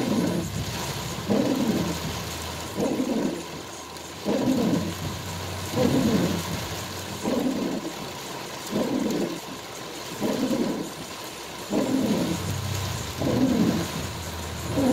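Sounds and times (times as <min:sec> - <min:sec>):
heavy rain on car: 0:00.0 - 0:14.9
windshield wipers sweeping: 0:00.0 - 0:14.9.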